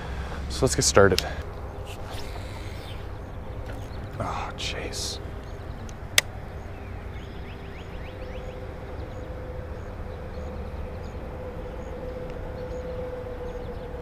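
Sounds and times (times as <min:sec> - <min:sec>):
faint steady hum: 0:00.0 - 0:14.0
outdoor background rumble: 0:00.0 - 0:14.0.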